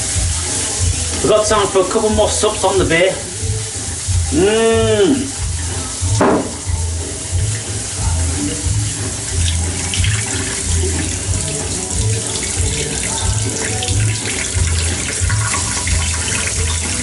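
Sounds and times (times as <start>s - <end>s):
background music with low beat: 0.0s - 17.0s
water running and splashing: 0.0s - 17.0s.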